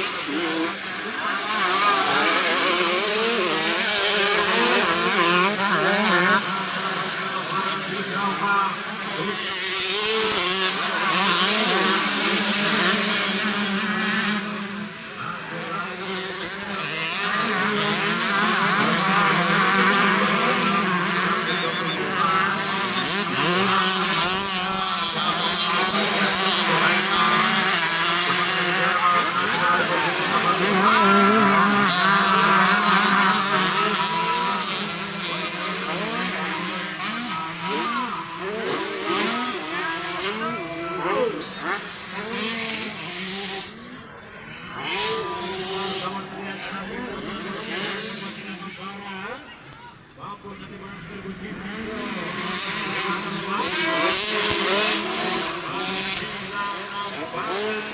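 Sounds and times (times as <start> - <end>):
motocross engines revving: 0.0 - 57.9.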